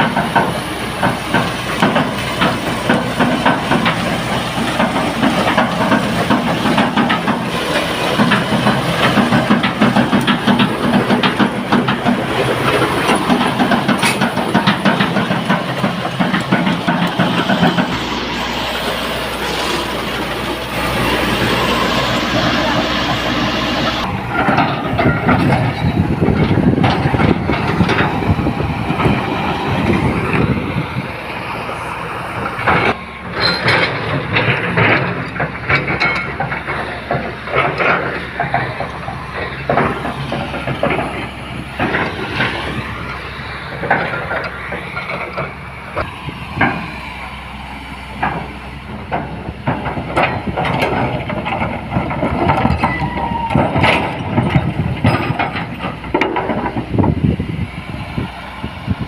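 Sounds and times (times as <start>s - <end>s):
metallic clanks and knocks: 0.0s - 18.5s, 19.4s - 30.6s, 32.4s - 46.9s, 48.2s - 57.2s
excavator engine drone: 0.0s - 59.0s.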